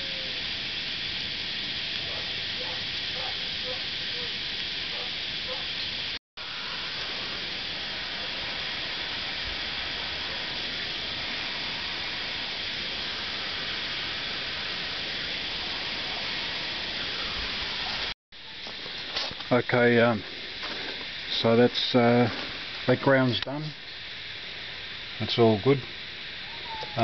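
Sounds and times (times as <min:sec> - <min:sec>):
blowtorch flame hissing: 0:00.0 - 0:27.0.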